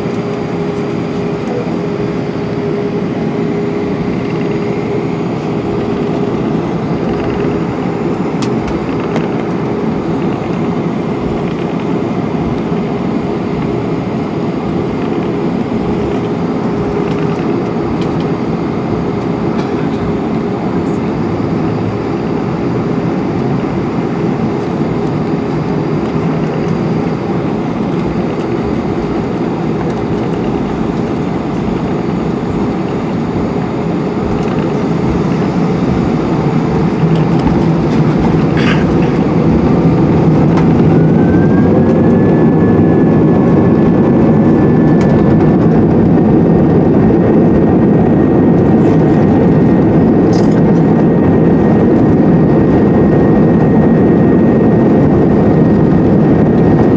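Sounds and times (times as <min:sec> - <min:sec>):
jet engines in cabin: 0:00.0 - 0:56.9
rising engine whine: 0:00.0 - 0:56.9.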